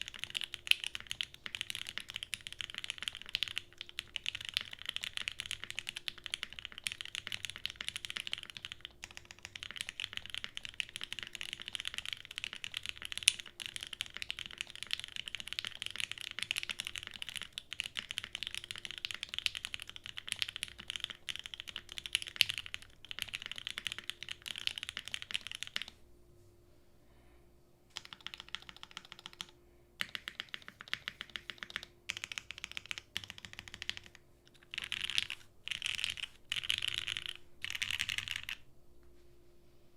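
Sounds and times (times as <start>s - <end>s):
fast typing on mechanical keyboard: 0.0s - 26.0s, 27.9s - 38.6s.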